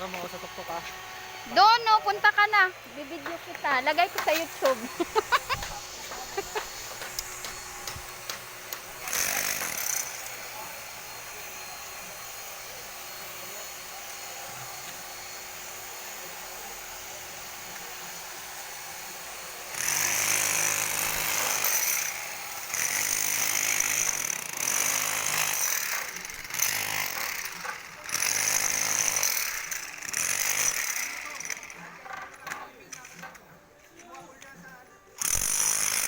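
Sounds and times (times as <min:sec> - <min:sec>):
power tool running in bursts: 0:00.0 - 0:32.3, 0:35.2 - 0:36.0.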